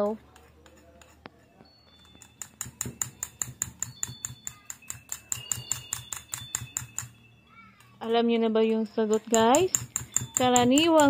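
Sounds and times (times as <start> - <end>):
utensil beating batter in metal bowl: 0.0 - 7.2, 8.0 - 11.0.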